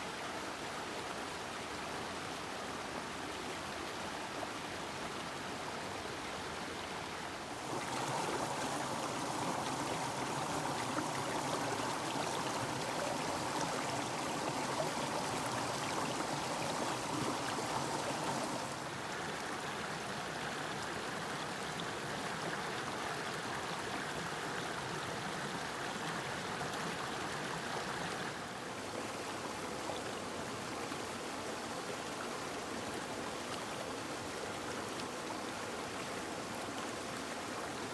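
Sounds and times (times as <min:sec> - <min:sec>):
brook rushing over waterfalls: 0:00.0 - 0:37.9.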